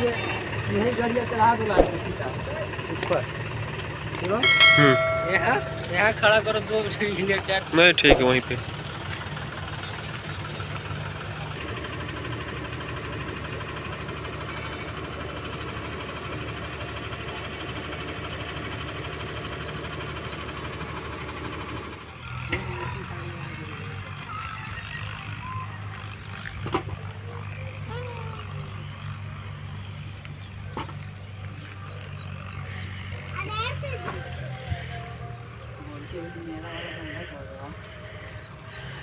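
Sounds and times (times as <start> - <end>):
truck diesel engine idling: 0.0 - 39.0.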